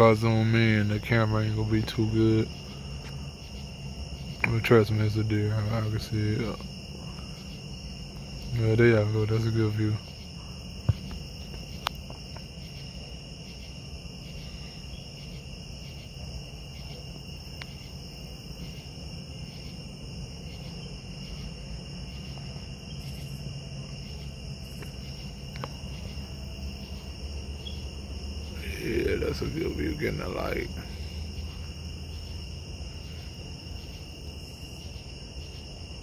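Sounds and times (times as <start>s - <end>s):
night insects trilling: 0.0s - 36.0s.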